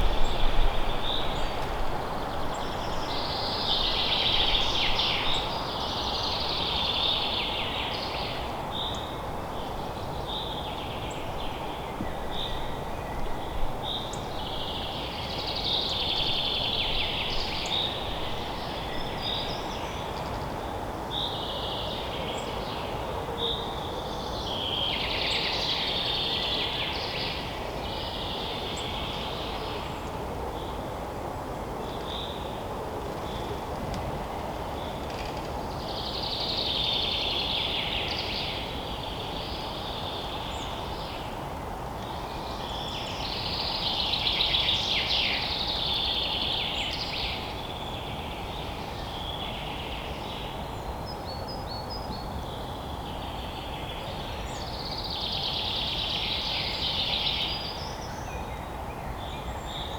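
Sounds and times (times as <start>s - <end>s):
songbirds singing: 0.0s - 30.9s, 31.8s - 59.9s.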